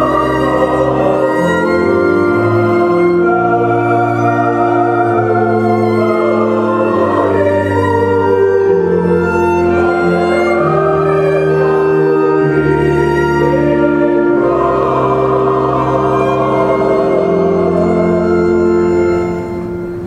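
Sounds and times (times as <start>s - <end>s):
choir singing a hymn: 0.0s - 20.0s
organ: 0.0s - 20.0s
violin: 0.0s - 20.0s.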